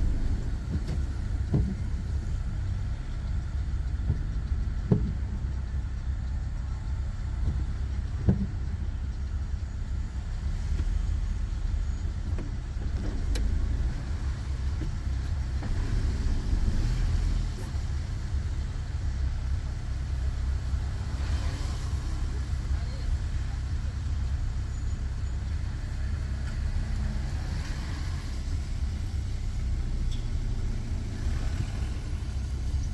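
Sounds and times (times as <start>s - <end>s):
car engine and tyres rumbling: 0.0s - 32.9s.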